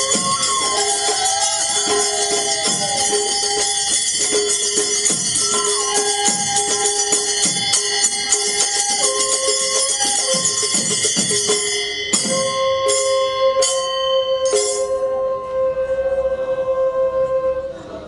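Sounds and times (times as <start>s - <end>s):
hand cymbals clashing: 0.0s - 15.2s
held melody notes: 0.0s - 18.0s.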